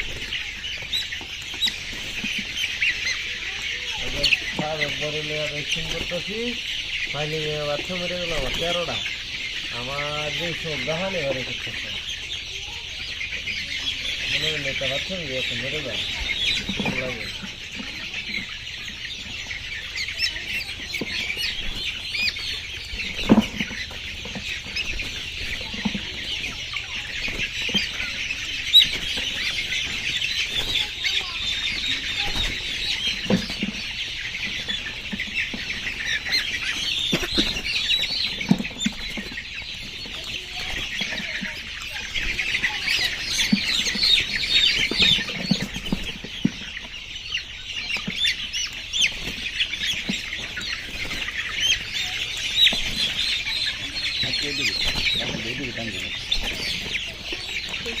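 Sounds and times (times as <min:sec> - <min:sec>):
chickens chirping and peeping: 0:00.0 - 0:58.0.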